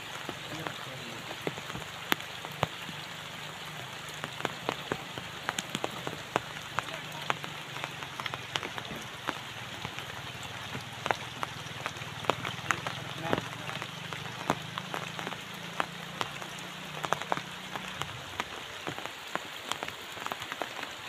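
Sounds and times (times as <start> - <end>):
raindrops tapping umbrellas: 0.0 - 21.0
steady rain hiss: 0.0 - 21.0.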